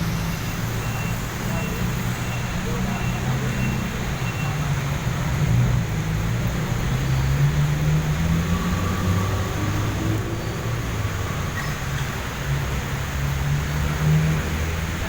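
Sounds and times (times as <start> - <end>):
rain hissing on wet road: 0.0 - 15.0
vehicle engines rumbling: 0.0 - 15.0.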